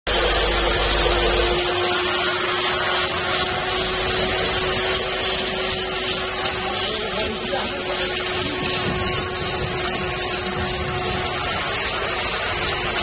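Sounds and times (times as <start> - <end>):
machine running with hum: 0.1 - 13.0.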